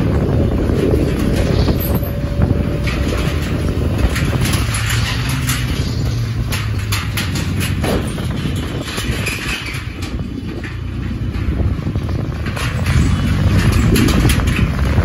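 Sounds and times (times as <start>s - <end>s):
motorcycle engine running: 0.0s - 15.0s
sharp rattles and clicks: 0.0s - 15.0s
tyres rolling over steel grating: 0.0s - 15.0s.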